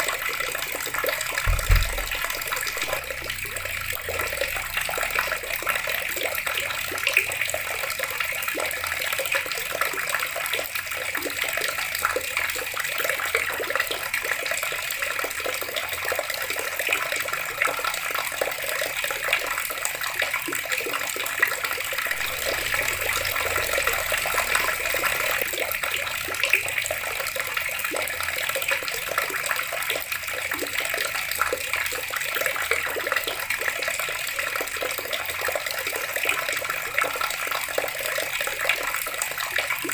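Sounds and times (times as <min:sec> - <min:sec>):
water running from a tap: 0:00.0 - 0:39.9
water splashes and drips: 0:00.0 - 0:39.9.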